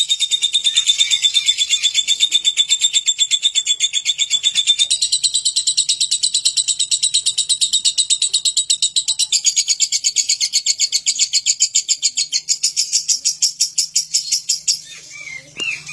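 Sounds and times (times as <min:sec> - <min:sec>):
lovebird chattering: 0:00.0 - 0:15.9.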